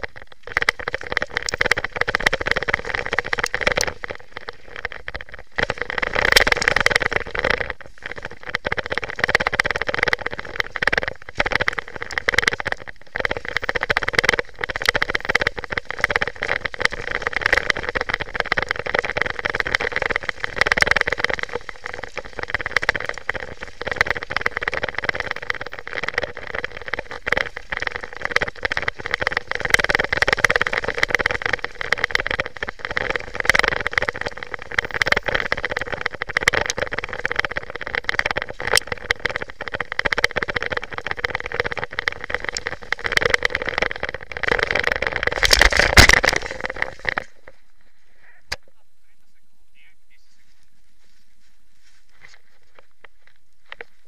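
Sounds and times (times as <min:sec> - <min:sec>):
bike clattering over bumps: 0:00.0 - 0:47.7.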